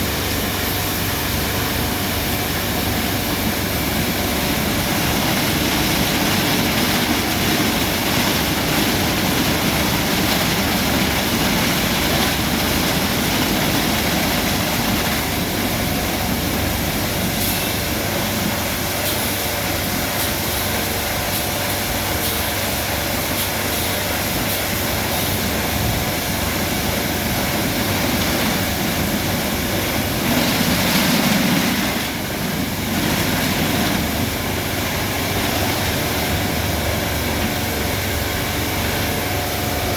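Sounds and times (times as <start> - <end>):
car wash machine roaring: 0.0 - 39.9.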